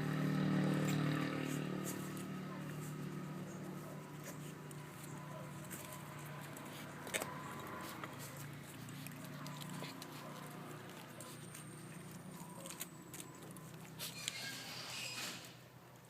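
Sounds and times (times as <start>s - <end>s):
puppies chewing: 0.0s - 14.7s.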